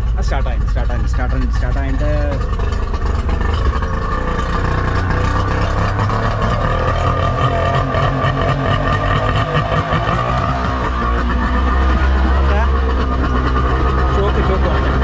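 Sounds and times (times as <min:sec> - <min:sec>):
small boat engine running: 0:00.0 - 0:15.0.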